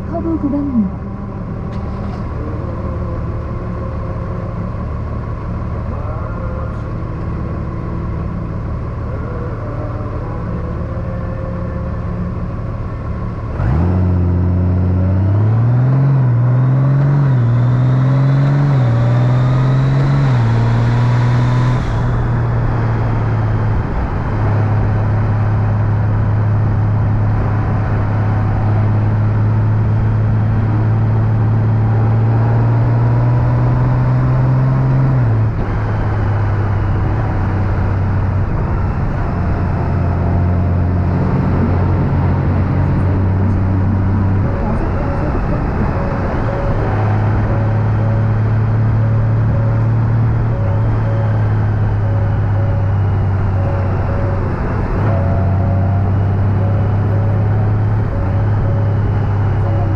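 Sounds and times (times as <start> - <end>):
motorcycle accelerating and shifting: 0.0 - 59.9.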